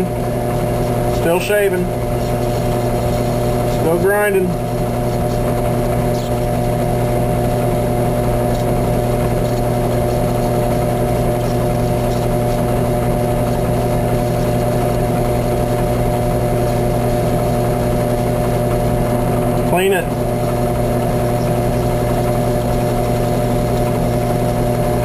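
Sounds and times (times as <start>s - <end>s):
drill press humming: 0.0s - 25.0s.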